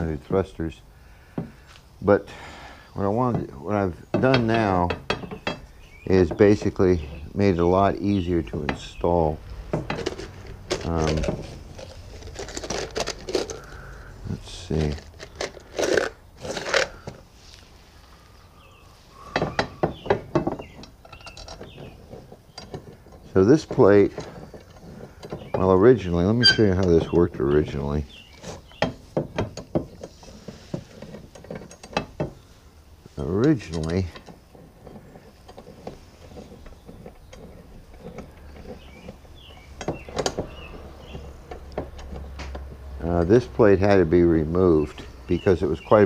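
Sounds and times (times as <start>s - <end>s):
metal parts clinking and knocking: 3.2s - 17.3s, 19.3s - 32.4s, 33.2s - 44.2s.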